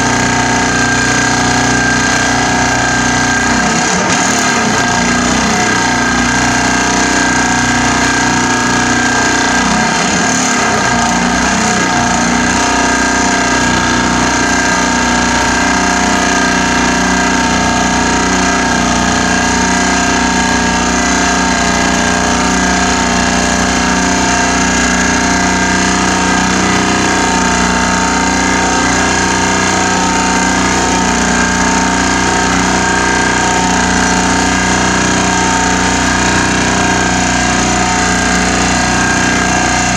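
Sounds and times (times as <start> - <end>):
vibratory pile driver humming: 0.0 - 39.9.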